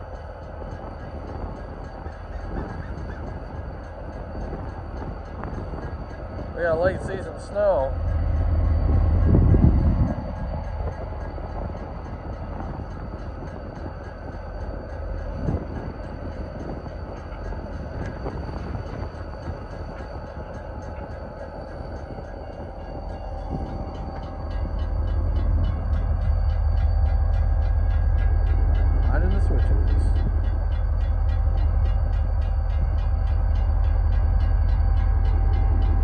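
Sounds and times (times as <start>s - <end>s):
diesel locomotive engine rumble: 0.0s - 36.0s.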